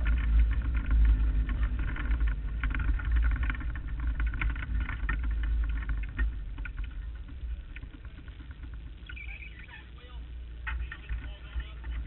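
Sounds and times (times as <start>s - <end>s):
race car engine rumbling: 0.0s - 12.0s.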